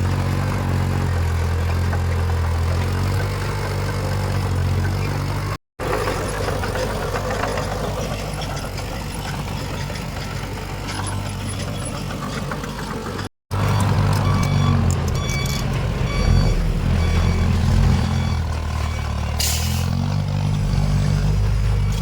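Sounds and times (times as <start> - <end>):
diesel machinery engine drone: 0.0 - 22.0.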